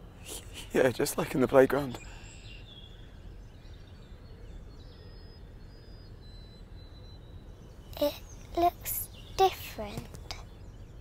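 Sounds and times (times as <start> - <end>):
faint high bird chirps: 0.0 - 11.0.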